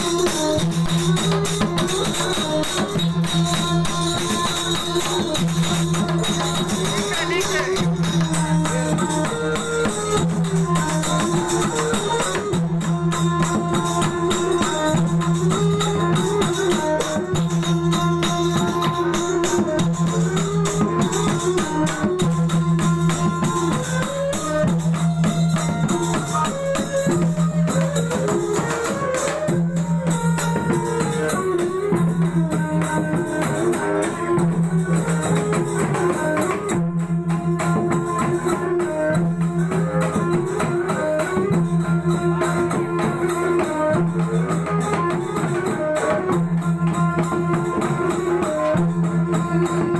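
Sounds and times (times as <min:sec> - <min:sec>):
bowed violin melody: 0:00.0 - 0:49.9
drum beating quick rhythm: 0:00.0 - 0:49.9.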